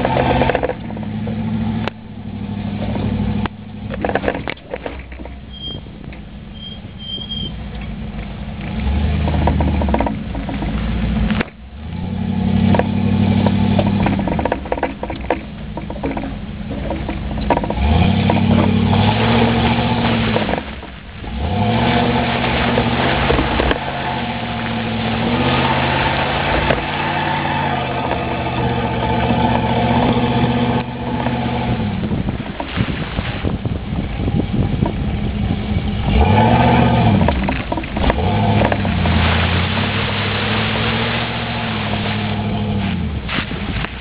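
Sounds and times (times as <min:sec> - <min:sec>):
spinning tire spraying dirt: 0:00.0 - 0:44.0
truck engine revving: 0:00.0 - 0:44.0.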